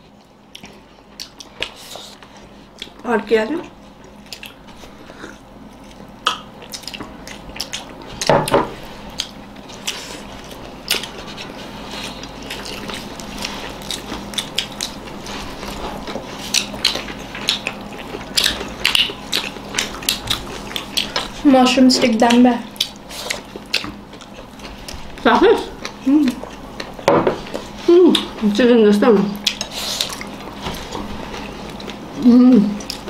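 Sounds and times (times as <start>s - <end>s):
people chewing food: 0.0s - 33.0s.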